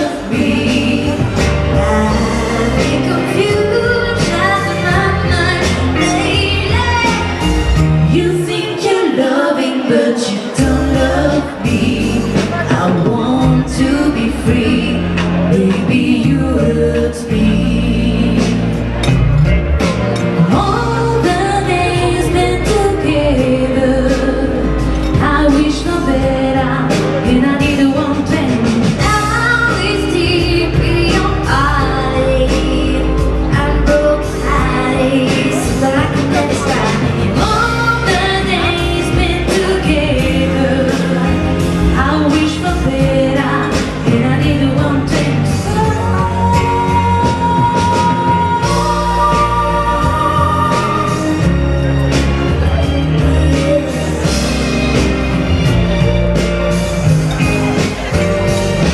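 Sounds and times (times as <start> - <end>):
song with singing voices: 0.0 - 58.9.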